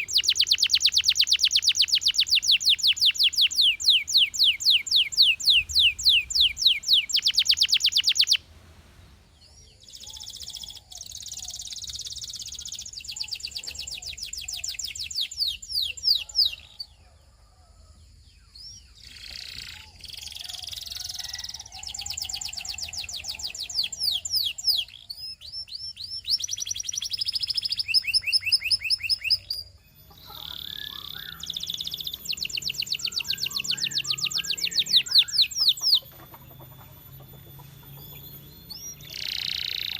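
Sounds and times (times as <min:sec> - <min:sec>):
canary singing trills: 0:00.0 - 0:08.5, 0:09.2 - 0:17.1, 0:18.3 - 0:39.9.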